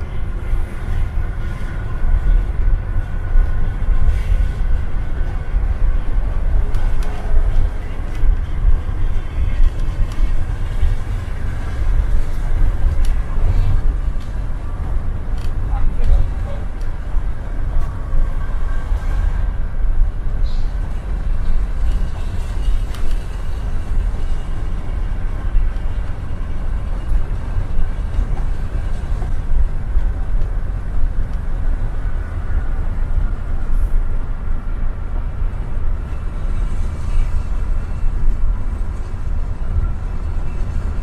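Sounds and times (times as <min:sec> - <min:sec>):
bus engine rumble: 0:00.0 - 0:41.0
road noise: 0:00.0 - 0:41.0.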